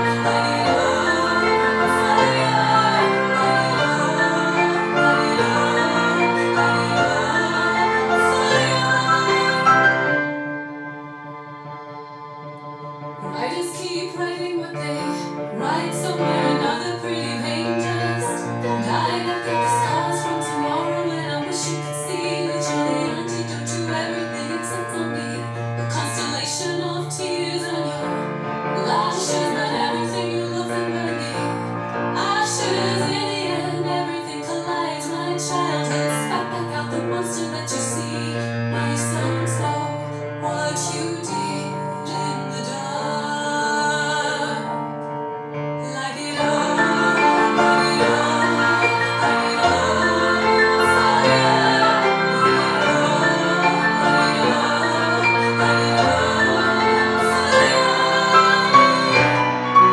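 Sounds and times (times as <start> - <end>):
woman singing: 0.0 - 10.1, 13.2 - 44.9, 45.8 - 59.4
grand piano accompaniment: 0.0 - 59.9.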